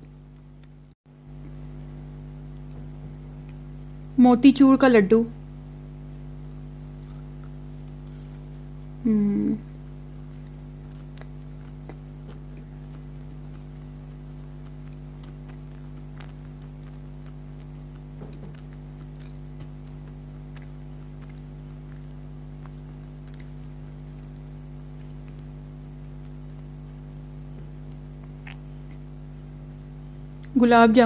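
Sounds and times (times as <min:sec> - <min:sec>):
person chewing: 0:00.0 - 0:01.8, 0:06.4 - 0:09.0, 0:09.8 - 0:30.5
steady low hum: 0:00.0 - 0:31.0.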